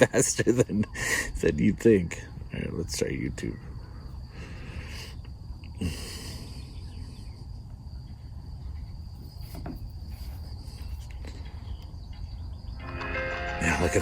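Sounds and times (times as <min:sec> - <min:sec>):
crickets trilling: 0:00.0 - 0:14.0
low background rumble: 0:01.4 - 0:12.8.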